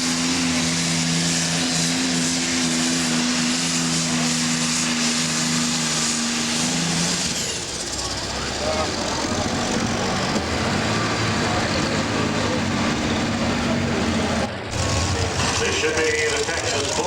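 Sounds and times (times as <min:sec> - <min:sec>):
tractor engine at full power: 0:00.0 - 0:17.0.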